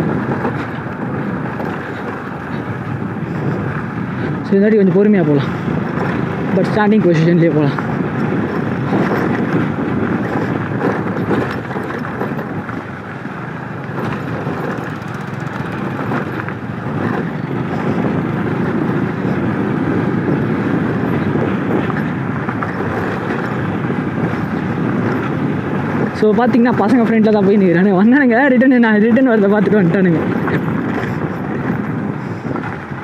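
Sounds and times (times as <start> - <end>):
motorcycle engine on dirt track: 0.0 - 33.0.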